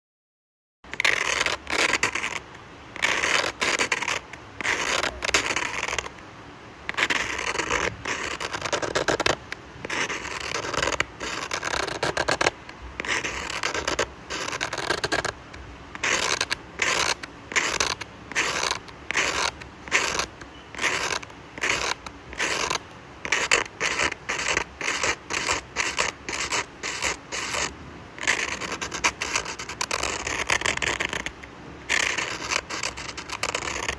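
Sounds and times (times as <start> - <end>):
drawing tool scratching paper: 0.9 - 6.2, 6.9 - 33.9.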